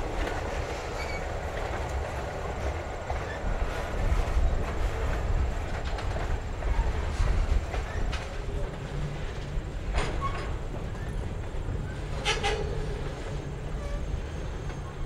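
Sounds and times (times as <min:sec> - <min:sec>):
wheels clacking over rail joints: 0:00.0 - 0:14.9
freight train rumbling: 0:00.0 - 0:15.0.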